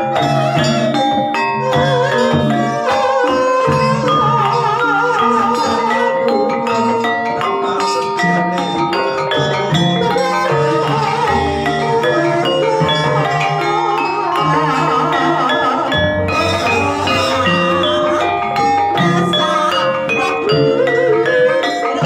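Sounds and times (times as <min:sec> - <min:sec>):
gamelan mallet notes: 0:00.0 - 0:22.0
wavering melody line: 0:00.0 - 0:22.0.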